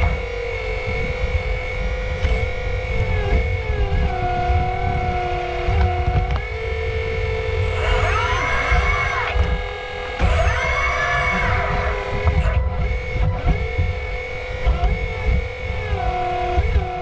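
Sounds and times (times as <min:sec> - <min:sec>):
hydraulic pump whining: 0:00.0 - 0:17.0.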